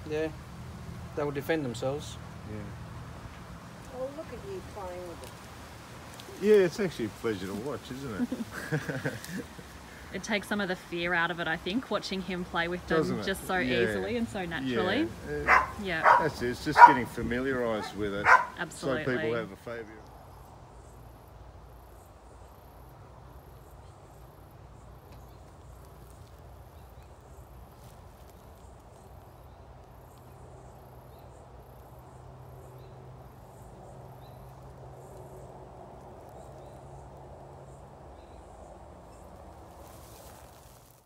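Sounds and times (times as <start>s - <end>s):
insect chirping: 0.0s - 41.0s.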